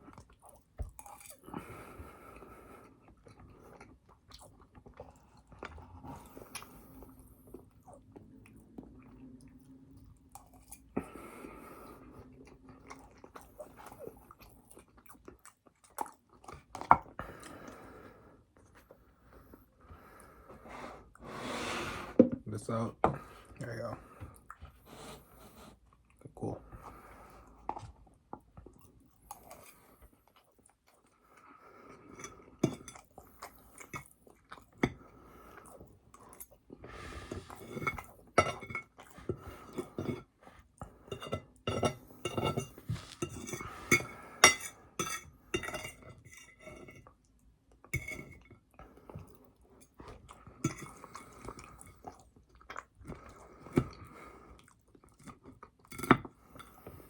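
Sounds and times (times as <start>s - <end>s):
chewing and crunching food: 0.0s - 20.6s, 22.7s - 57.0s.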